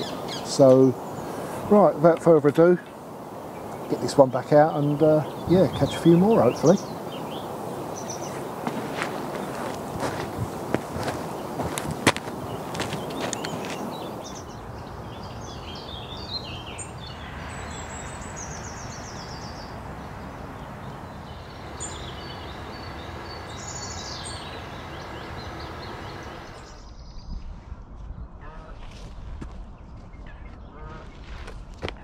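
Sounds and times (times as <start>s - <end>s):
steady background hiss: 0.0s - 26.8s
small birds chirping: 0.0s - 27.4s.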